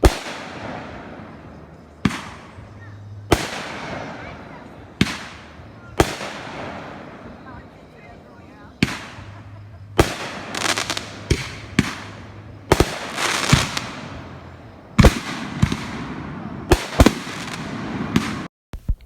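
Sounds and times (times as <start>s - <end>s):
fireworks bangs and crackle: 0.0s - 18.5s.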